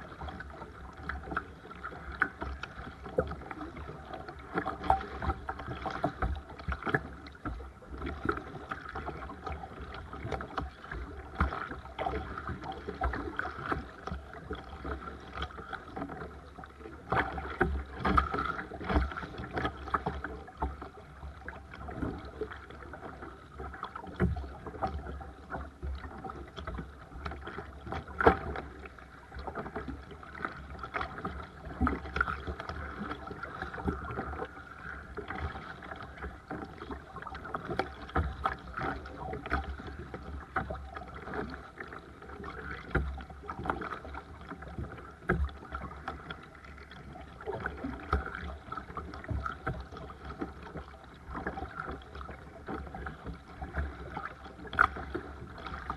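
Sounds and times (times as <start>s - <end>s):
paddle strokes splashing: 0.0s - 55.9s
water splashing around kayak: 0.0s - 55.9s.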